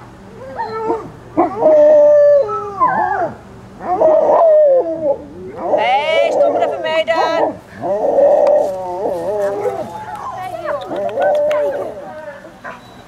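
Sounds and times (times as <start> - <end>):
puppies howling and whining: 0.2 - 13.0.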